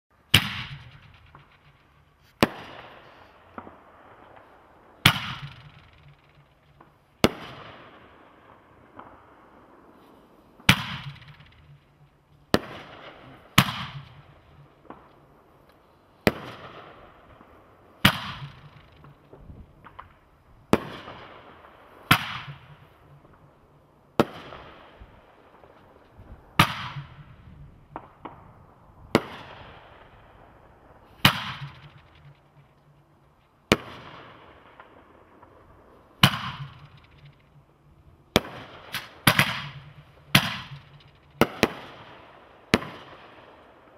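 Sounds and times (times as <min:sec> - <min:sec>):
fireworks bangs with echo: 0:00.3 - 0:01.8, 0:02.4 - 0:09.9, 0:10.6 - 0:15.1, 0:16.2 - 0:23.4, 0:24.2 - 0:25.8, 0:26.5 - 0:32.6, 0:33.7 - 0:37.4, 0:38.3 - 0:43.9.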